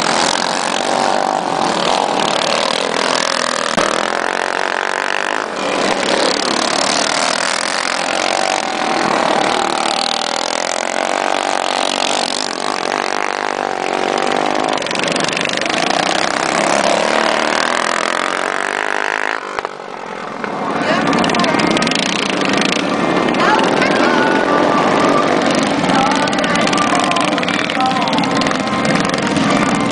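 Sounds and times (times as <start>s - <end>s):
kart engines revving: 0.0s - 29.9s.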